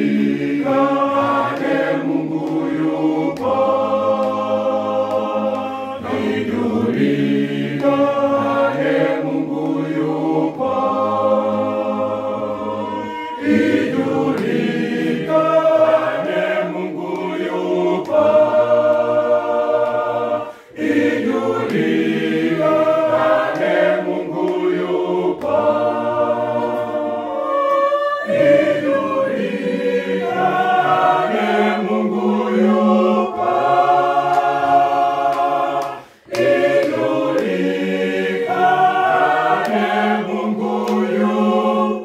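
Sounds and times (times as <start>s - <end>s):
mixed choir singing unaccompanied: 0.0s - 42.0s.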